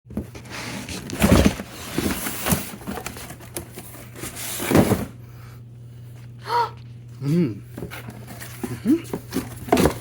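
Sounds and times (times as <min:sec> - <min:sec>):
steady low hum: 0:00.2 - 0:10.0.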